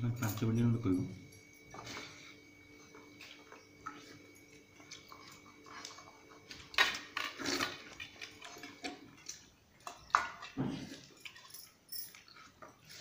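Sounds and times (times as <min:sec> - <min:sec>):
chewing: 0:01.8 - 0:13.0.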